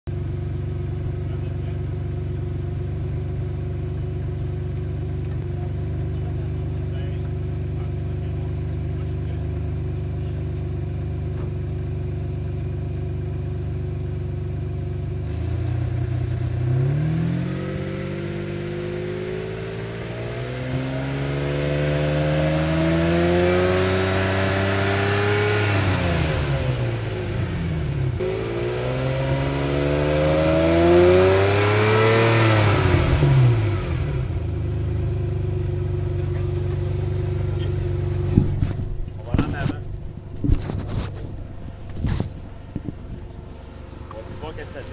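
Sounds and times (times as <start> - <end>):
car engine idling and revving: 0.0 - 44.9.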